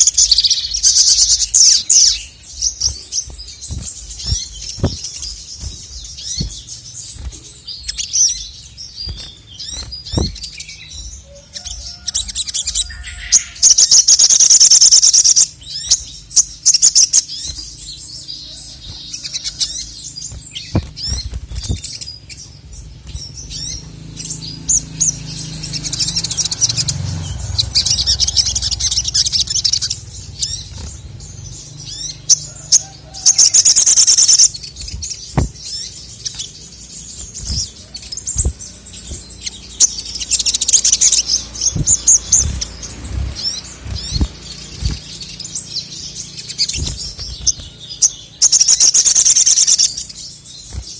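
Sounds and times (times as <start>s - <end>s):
songbird chirping and trilling: 0.0s - 50.9s.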